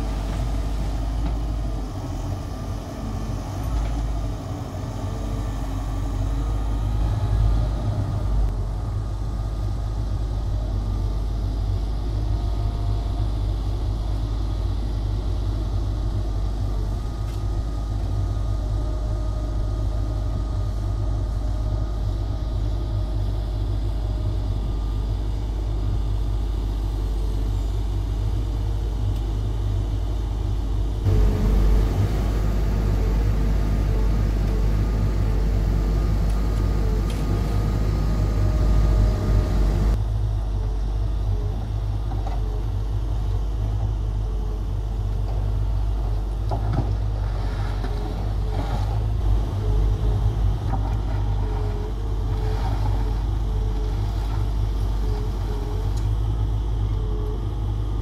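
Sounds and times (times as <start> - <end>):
excavator diesel engine running: 0.0 - 24.7, 25.8 - 57.8.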